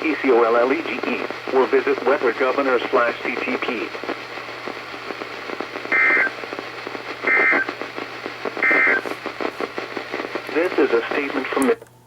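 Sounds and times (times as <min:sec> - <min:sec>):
radio static: 0:00.0 - 0:11.8.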